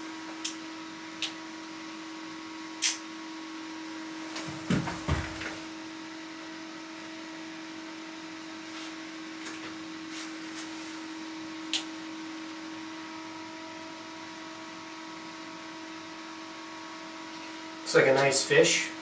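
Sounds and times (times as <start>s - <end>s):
small fan motor humming: 0.0s - 19.0s.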